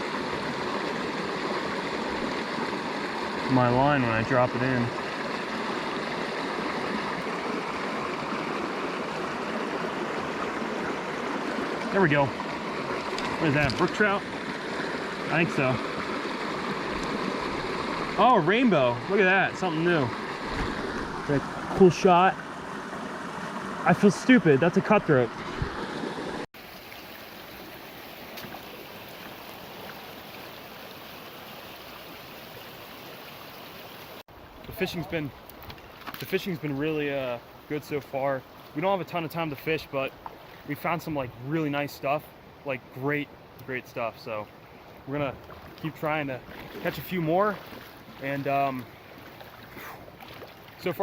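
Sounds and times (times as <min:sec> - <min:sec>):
mountain creek flowing: 0:00.0 - 0:51.0.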